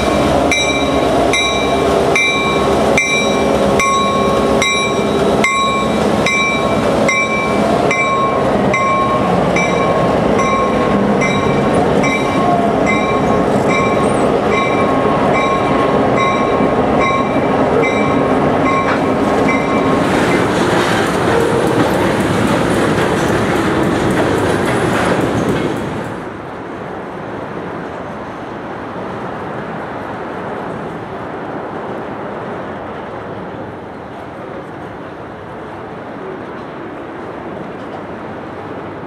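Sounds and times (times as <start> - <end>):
freight train rolling past: 0.0 - 39.0.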